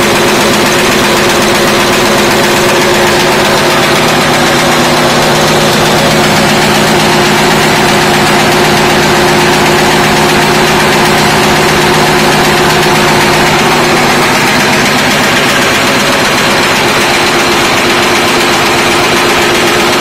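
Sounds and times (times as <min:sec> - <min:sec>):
nail making machine clattering: 0:00.0 - 0:20.0.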